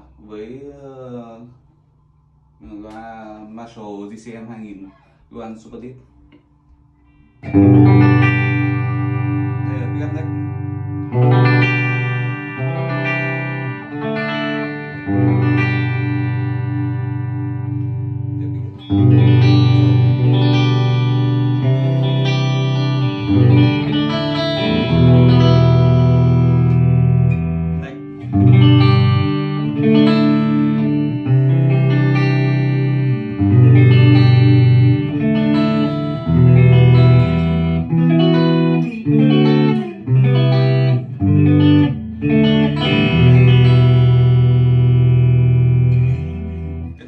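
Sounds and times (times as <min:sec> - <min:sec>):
electric guitar playing: 0:06.0 - 0:47.0.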